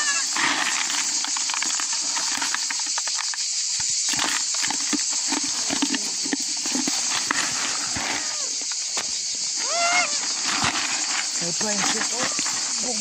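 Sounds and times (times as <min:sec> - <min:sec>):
goats crunching corn: 0:00.0 - 0:03.4, 0:04.0 - 0:13.0.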